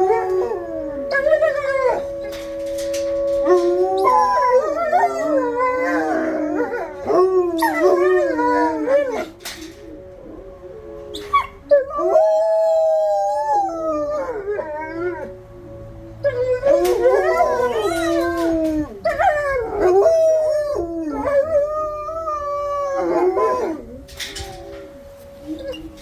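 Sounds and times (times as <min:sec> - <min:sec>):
dogs howling: 0:00.0 - 0:26.0
faint siren steady tone: 0:00.0 - 0:26.0.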